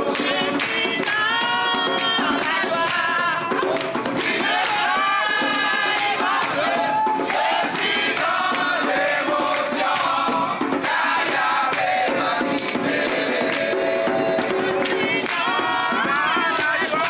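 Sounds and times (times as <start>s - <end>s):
group singing and chanting: 0.0s - 17.0s.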